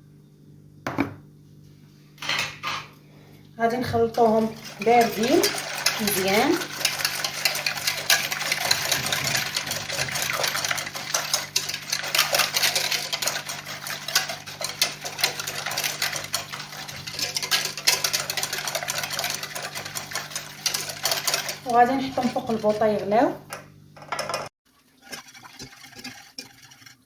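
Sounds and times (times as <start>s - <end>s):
whisk clicking against pot: 4.1s - 23.6s, 24.2s - 27.0s.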